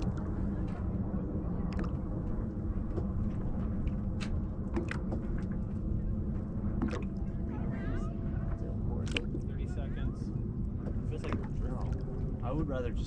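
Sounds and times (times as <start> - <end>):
wind and water rumble: 0.0 - 13.0.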